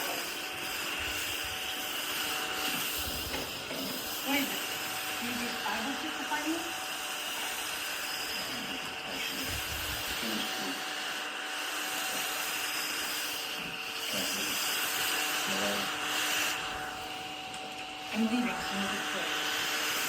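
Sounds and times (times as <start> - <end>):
small vacuum cleaner running: 0.0 - 20.0.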